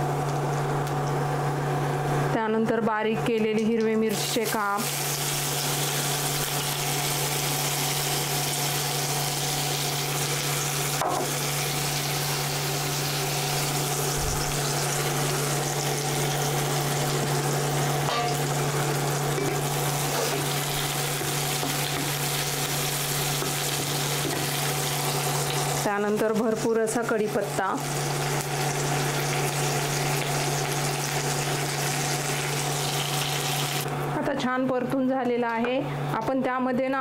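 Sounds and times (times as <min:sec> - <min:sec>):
chillies sizzling in hot oil: 0:04.1 - 0:33.9.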